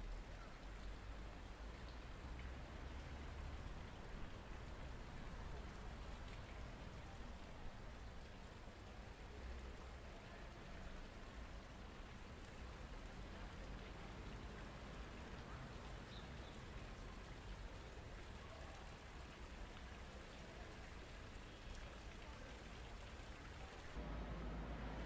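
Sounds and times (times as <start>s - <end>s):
fountain water splashing: 0.0s - 25.0s
low rumble of street noise: 0.0s - 25.0s.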